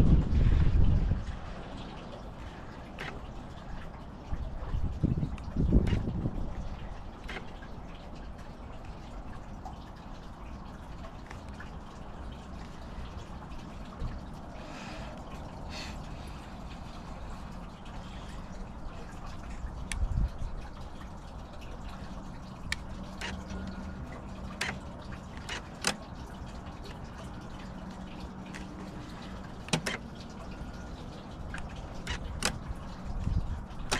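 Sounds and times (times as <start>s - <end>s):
low steady rumble: 0.0s - 33.9s.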